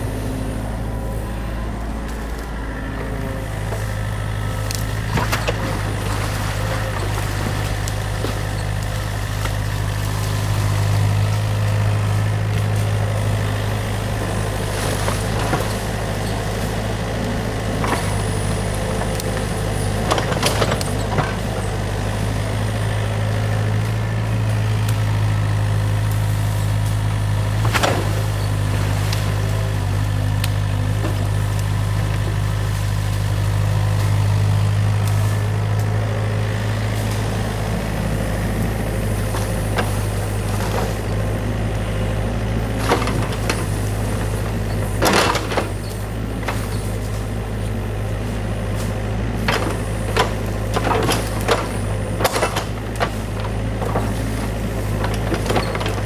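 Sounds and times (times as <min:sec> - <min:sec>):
diesel excavator engine humming: 0:00.0 - 0:56.0.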